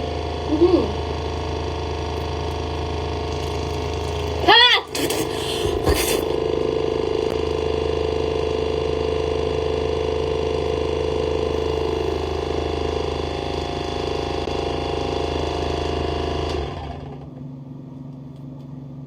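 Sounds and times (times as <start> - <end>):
water flosser pump whirring: 0.0 - 17.1.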